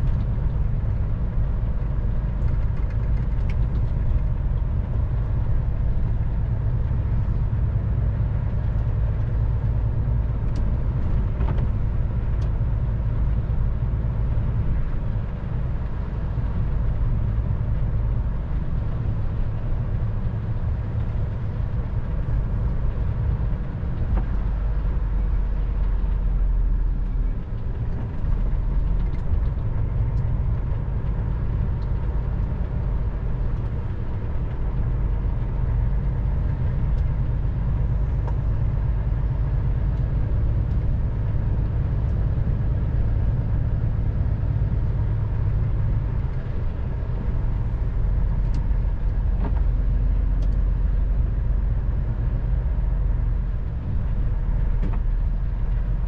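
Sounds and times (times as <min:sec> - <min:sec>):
truck engine and tyres rumbling: 0:00.0 - 0:56.0.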